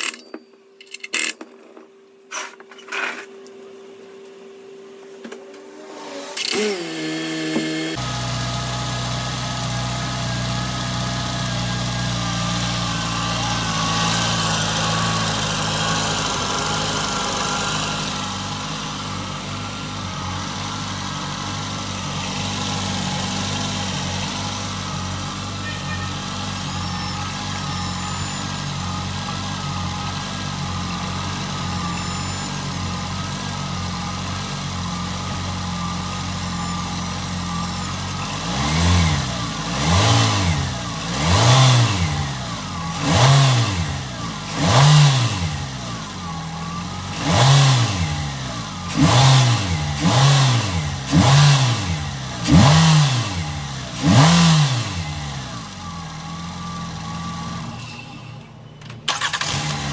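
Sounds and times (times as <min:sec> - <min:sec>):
car engine idling and revving: 0:05.4 - 0:59.9.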